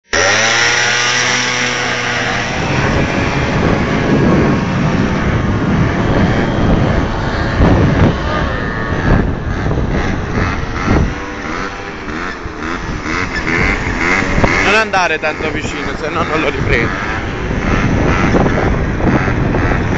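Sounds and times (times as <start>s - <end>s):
vehicle engine running: 0.0s - 19.9s.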